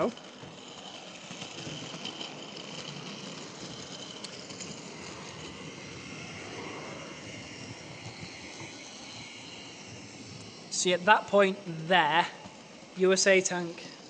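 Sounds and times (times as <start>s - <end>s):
model locomotive running on track: 0.0s - 14.0s.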